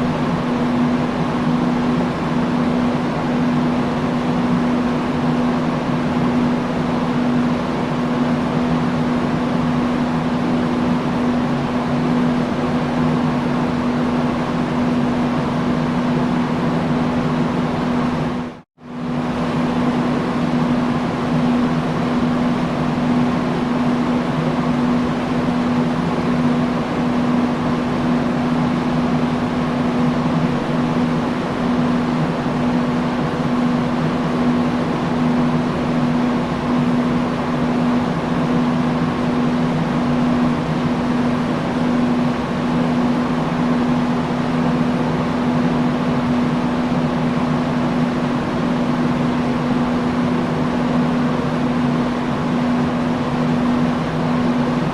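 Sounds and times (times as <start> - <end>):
industrial fan running: 0.0 - 54.9.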